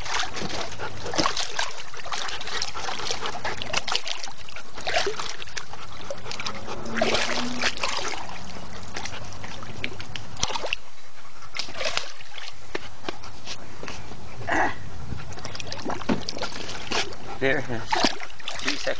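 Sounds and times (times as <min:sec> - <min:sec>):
water splashing in a pool: 0:00.0 - 0:13.6, 0:14.5 - 0:18.9.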